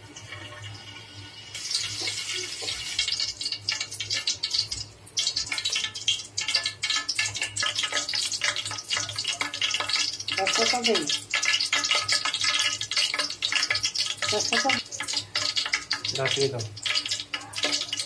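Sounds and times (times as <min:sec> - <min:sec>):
oil sizzling and spitting in pot: 0:00.0 - 0:18.0.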